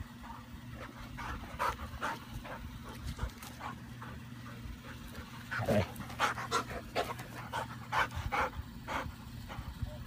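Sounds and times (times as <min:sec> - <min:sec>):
dog panting: 0:00.1 - 0:10.0.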